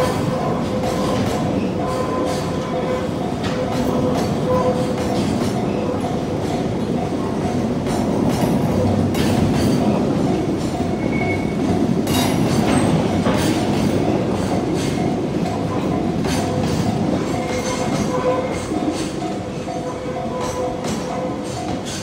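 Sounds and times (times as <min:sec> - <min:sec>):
crossing warning bell ringing: 0:00.0 - 0:22.0
train wheels rumbling: 0:00.0 - 0:22.0.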